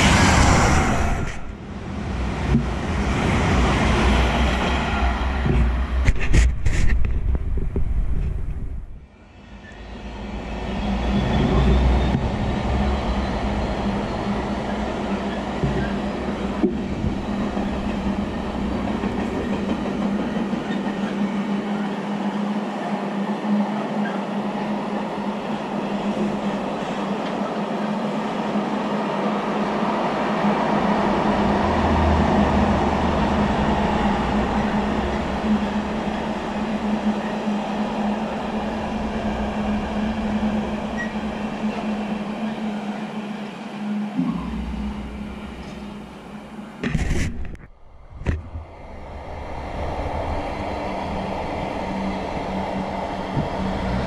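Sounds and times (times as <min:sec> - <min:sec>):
train wheels rolling on track: 0:00.0 - 0:08.6, 0:09.5 - 0:47.6, 0:48.2 - 0:54.0.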